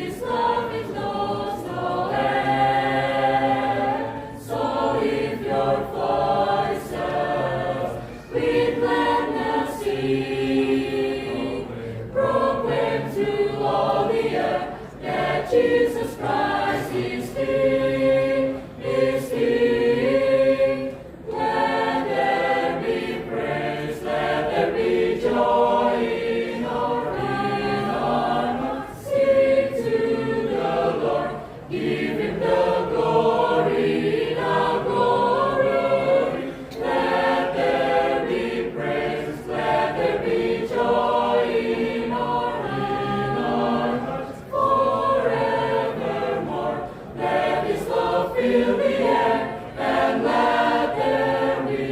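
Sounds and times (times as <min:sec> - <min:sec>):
church choir singing: 0:00.0 - 0:51.9.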